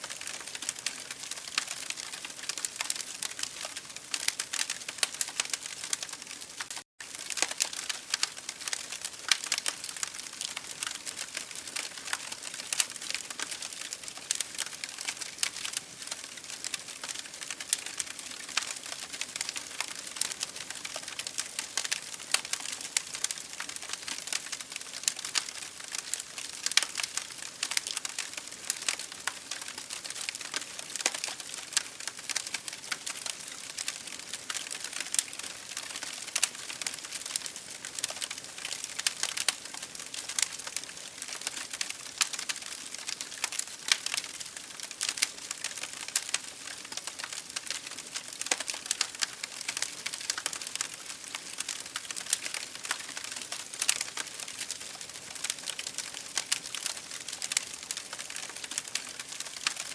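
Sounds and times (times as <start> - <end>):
wood fire crackling and popping: 0.1 - 59.9.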